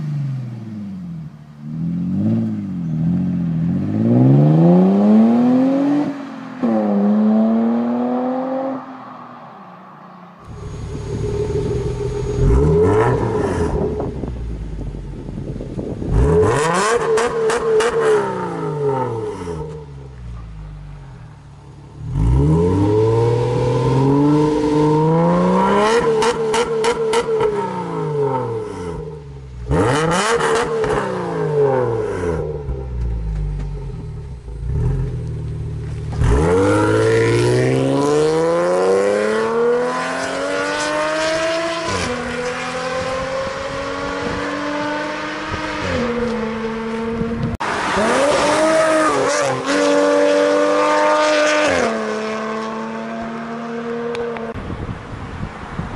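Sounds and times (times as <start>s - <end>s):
car engine revving: 0.0s - 54.6s.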